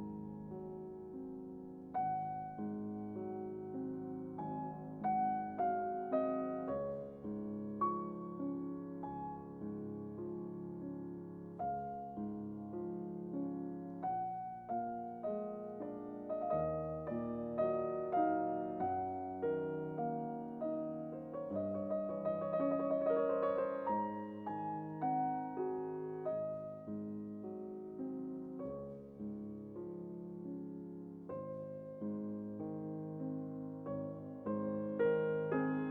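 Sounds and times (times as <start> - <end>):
piano music: 0.0 - 35.9.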